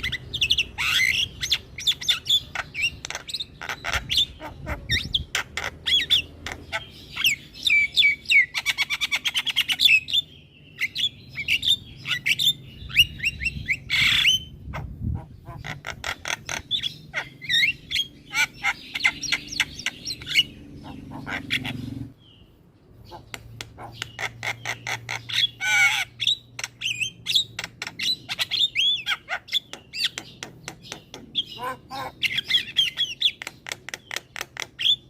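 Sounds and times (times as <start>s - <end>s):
bird squawk: 0.0s - 10.0s, 10.8s - 22.1s, 23.0s - 30.3s, 31.1s - 33.5s
bird singing: 0.0s - 35.0s.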